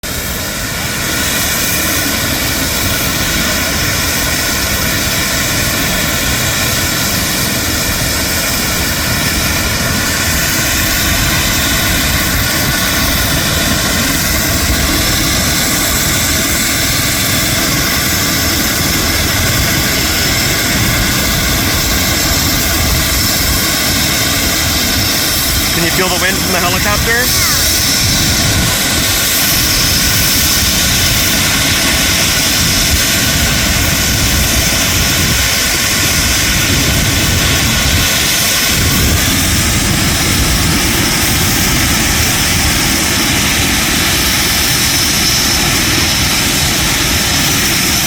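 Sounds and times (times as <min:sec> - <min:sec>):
helicopter running: 0:00.0 - 0:48.0.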